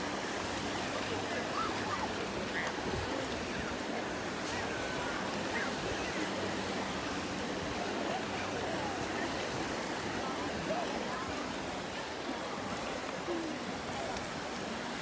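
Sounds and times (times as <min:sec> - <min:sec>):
steady wash of beach noise: 0:00.0 - 0:15.0
distant voices and calls: 0:00.6 - 0:15.0.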